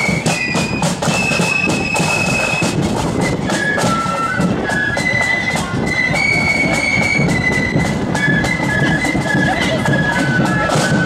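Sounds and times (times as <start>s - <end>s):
flutes playing in unison: 0.0s - 11.0s
rapid marching drumbeats: 0.0s - 11.0s.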